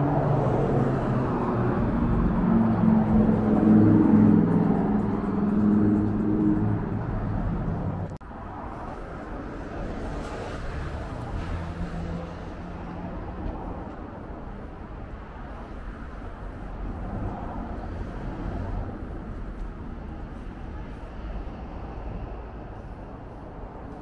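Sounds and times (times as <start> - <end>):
engine hum: 0.0 - 24.0
vehicles passing: 0.0 - 24.0.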